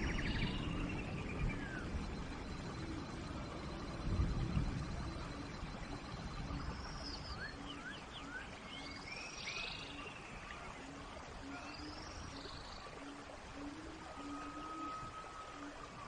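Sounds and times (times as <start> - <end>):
rain falling in a forest: 0.0 - 16.0.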